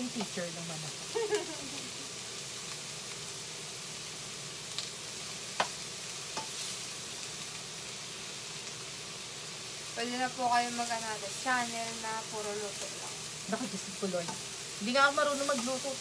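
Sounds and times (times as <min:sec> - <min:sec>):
garlic and onions sizzling in oil: 0:00.0 - 0:16.0.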